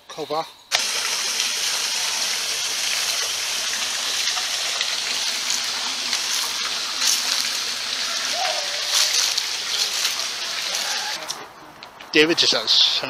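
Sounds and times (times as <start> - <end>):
flowing water rushing: 0.7 - 11.4.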